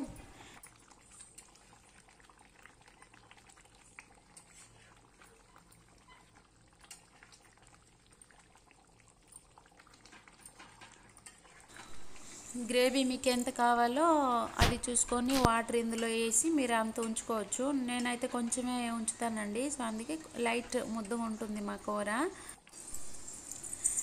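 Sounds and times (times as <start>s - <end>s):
curry bubbling in a pan: 0.4s - 24.0s.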